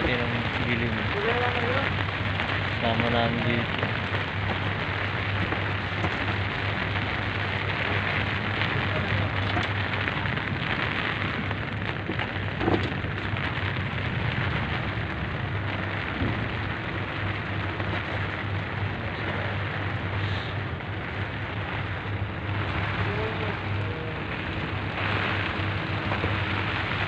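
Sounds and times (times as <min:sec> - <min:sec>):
low steady hum: 0:00.0 - 0:27.0
wind noise: 0:00.0 - 0:27.0.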